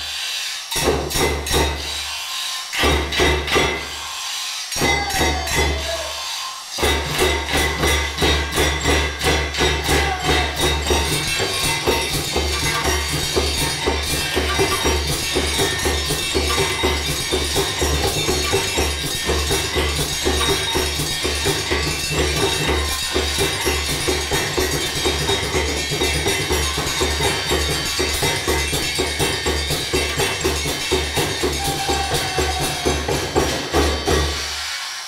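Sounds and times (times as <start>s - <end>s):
percussion on hammers and tools: 0.0s - 35.0s
low rhythmic pulse: 2.8s - 34.4s.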